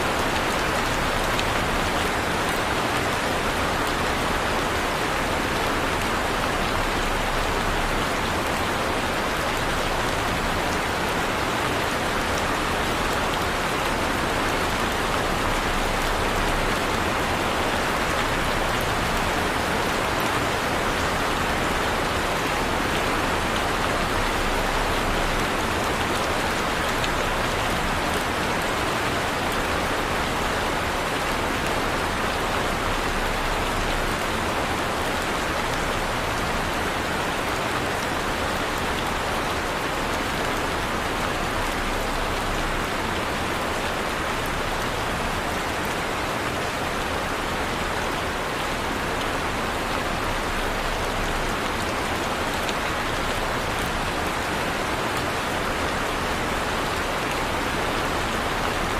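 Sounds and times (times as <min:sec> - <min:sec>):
heavy rain on a surface: 0:00.0 - 0:58.9.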